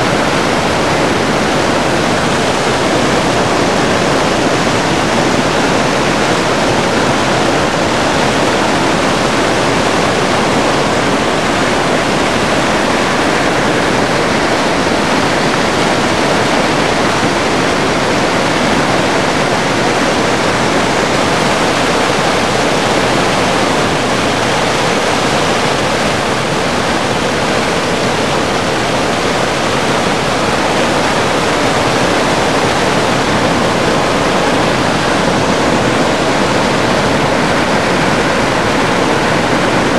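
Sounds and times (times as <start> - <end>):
rushing falling water: 0.0 - 39.9.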